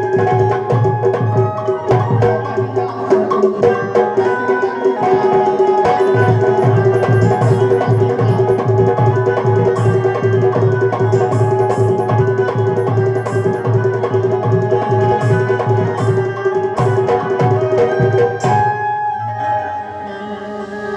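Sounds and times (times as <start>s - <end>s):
hand drum beat: 0.0s - 19.2s
held melody note: 0.0s - 20.9s.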